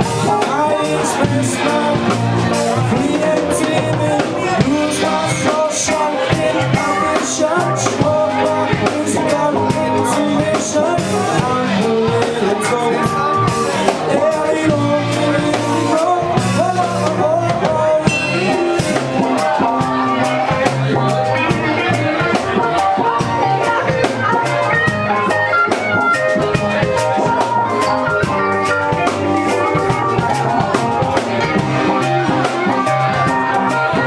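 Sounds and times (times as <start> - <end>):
bending melodic guitar lines: 0.0 - 34.0
rock band playing live: 0.0 - 34.0.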